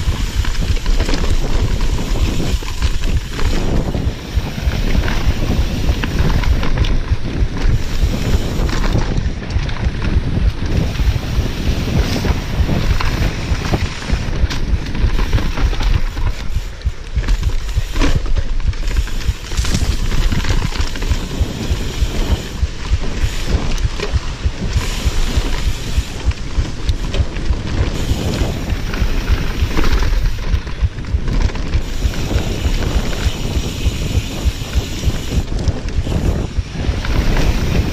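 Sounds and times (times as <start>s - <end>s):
bike knocking and rattling: 0.0s - 37.9s
tyres rumbling on dirt: 0.0s - 37.9s
wind buffeting microphone: 0.0s - 37.9s.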